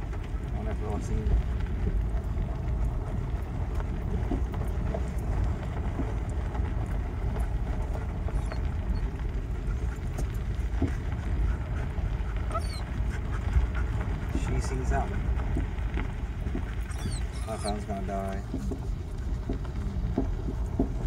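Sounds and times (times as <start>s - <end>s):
tyres rumbling on gravel: 0.0s - 21.0s.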